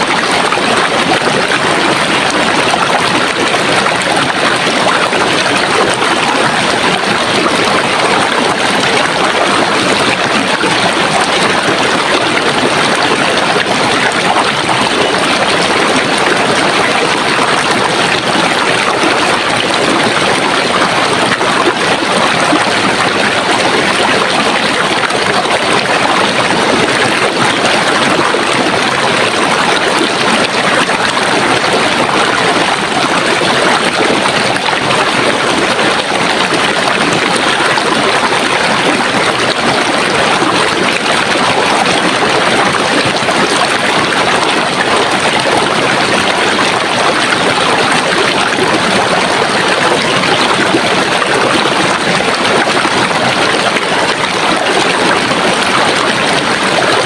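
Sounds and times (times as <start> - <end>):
water rushing and gurgling: 0.0 - 57.0.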